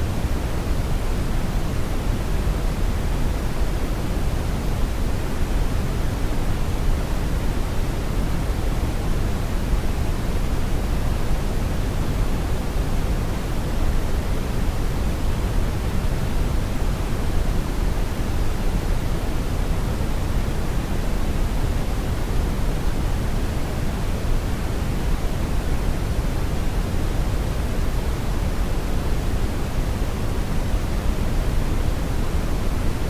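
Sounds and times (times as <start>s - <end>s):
brown noise rumbling hiss: 0.0s - 33.0s.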